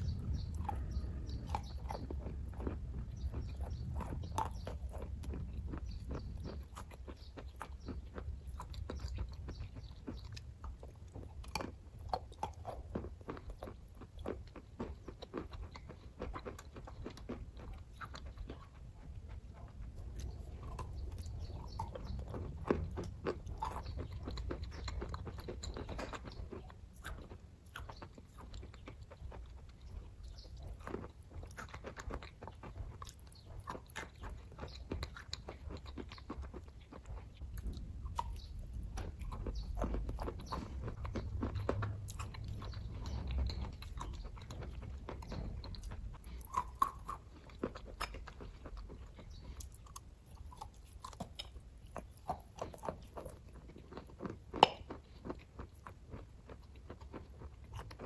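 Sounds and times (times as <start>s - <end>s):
close chewing and biting: 0.0s - 58.0s
low steady hum: 0.0s - 58.0s.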